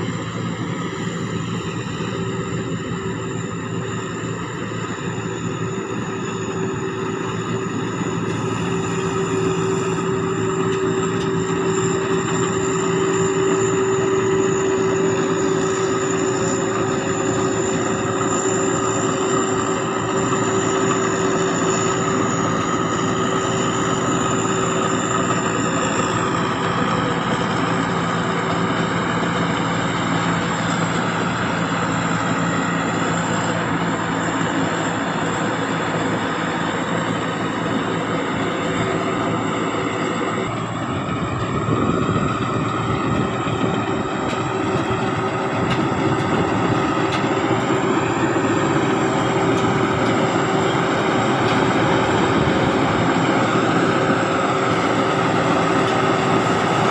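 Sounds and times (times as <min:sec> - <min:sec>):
diesel engine droning: 0:00.0 - 0:56.9
turbo whine: 0:00.0 - 0:56.9.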